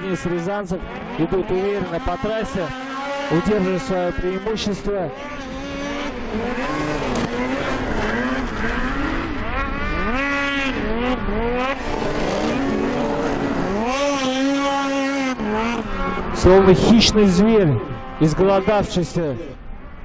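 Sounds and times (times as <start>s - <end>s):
snowmobile engines revving: 0.0s - 20.0s.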